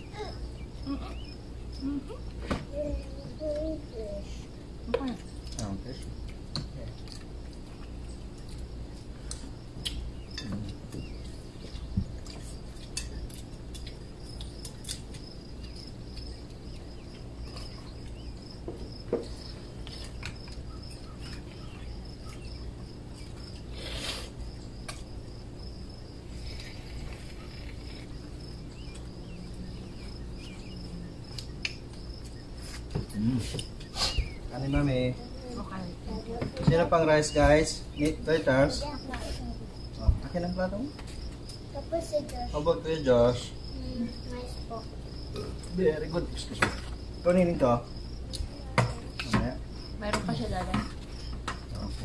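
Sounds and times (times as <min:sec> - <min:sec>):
low steady hum: 0:00.0 - 0:52.0
high-pitched insect trill: 0:07.6 - 0:52.0.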